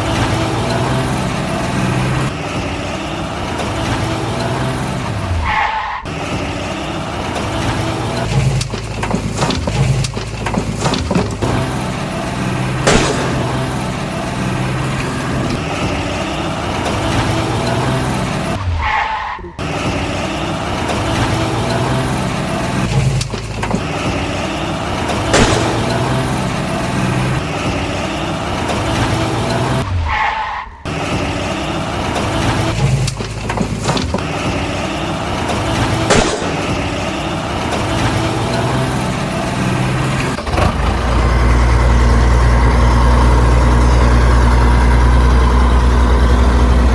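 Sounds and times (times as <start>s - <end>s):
heavy vehicle engine running: 0.0s - 30.0s, 30.9s - 46.9s.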